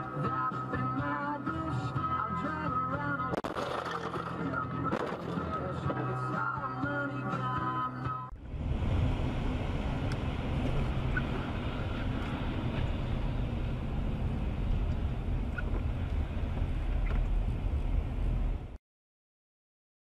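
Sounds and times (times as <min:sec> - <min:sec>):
engine and tyre rumble: 0:00.0 - 0:18.8.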